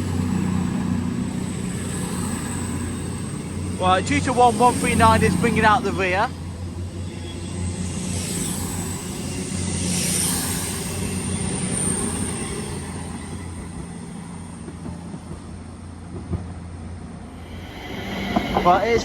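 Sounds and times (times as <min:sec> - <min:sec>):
diesel train engines humming: 0:00.0 - 0:19.0.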